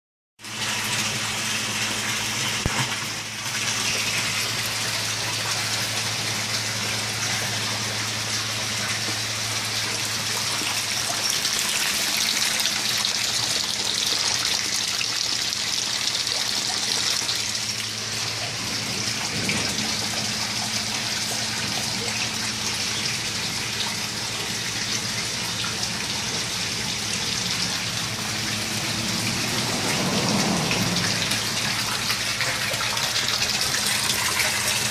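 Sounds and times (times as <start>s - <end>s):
water pouring into tank: 0.4s - 34.9s.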